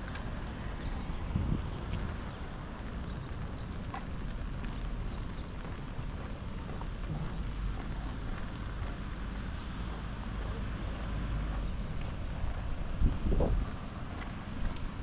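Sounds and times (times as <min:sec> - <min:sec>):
steady outdoor hiss: 0:00.0 - 0:15.0
wind rumbling on microphone: 0:00.0 - 0:15.0.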